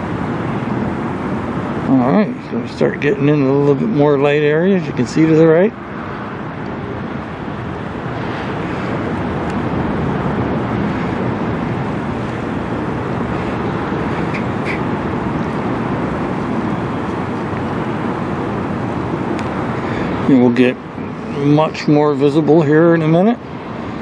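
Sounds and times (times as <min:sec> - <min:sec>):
broad rushing noise: 0:00.0 - 0:24.0
ship engine rumble: 0:00.0 - 0:24.0.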